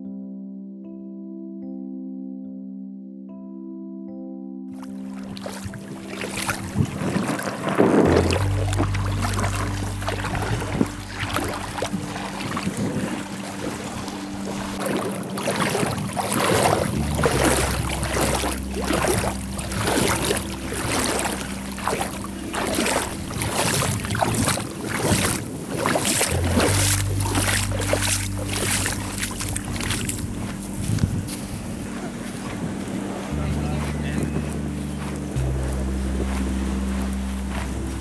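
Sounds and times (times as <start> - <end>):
splashy footsteps in water: 4.8 - 38.0
wind buffeting microphone: 5.2 - 38.0.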